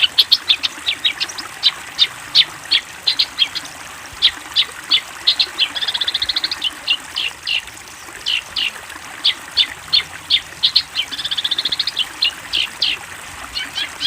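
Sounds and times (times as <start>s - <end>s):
bird song with sharp notes: 0.0s - 14.0s.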